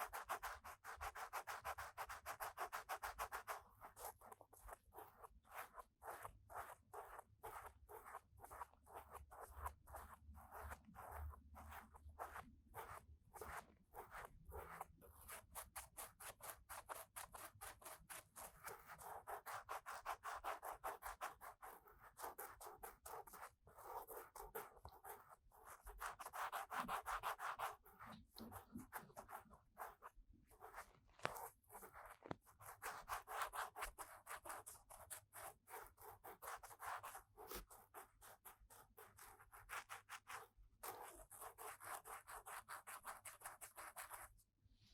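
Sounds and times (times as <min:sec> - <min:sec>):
scratching and rubbing in ear: 0:00.0 - 0:44.3.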